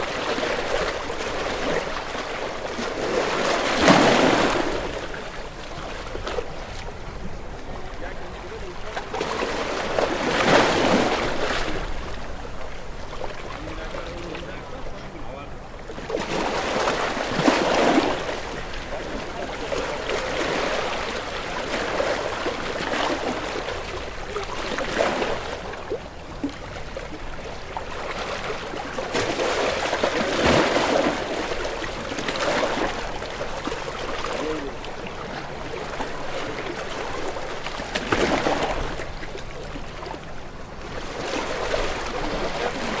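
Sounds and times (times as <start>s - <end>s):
ocean waves washing in: 0.0s - 43.0s.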